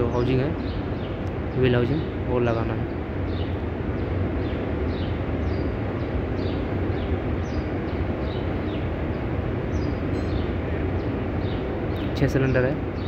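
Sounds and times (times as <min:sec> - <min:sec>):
bird chirping: 0:00.0 - 0:13.0
low background rumble: 0:00.0 - 0:13.0.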